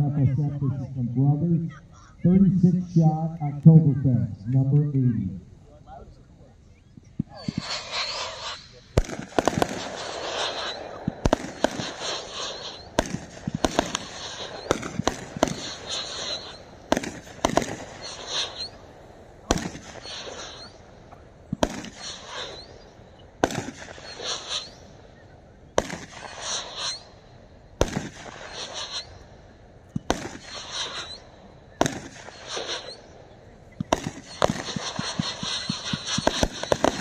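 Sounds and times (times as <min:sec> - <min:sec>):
fireworks firing: 0:07.1 - 0:37.0
fireworks fizzing: 0:07.1 - 0:37.0.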